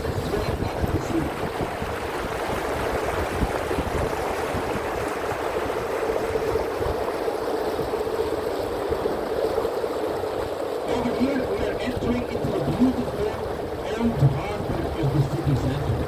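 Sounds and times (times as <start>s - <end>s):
boat motor hum: 0.0s - 16.0s
rushing water: 0.0s - 16.0s
wind buffeting microphone: 0.0s - 16.0s.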